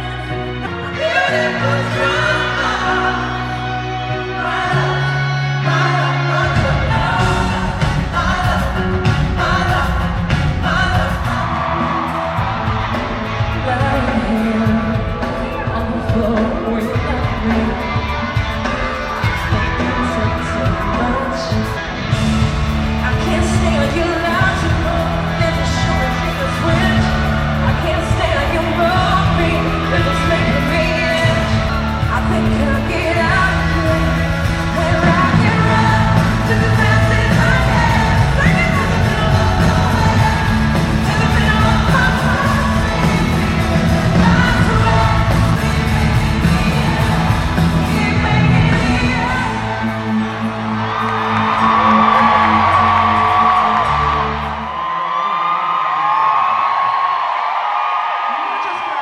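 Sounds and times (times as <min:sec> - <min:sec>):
live pop-rock band playing: 0:00.0 - 0:55.0
amplified singing: 0:00.0 - 0:55.4
crowd yelling: 0:00.0 - 0:59.0.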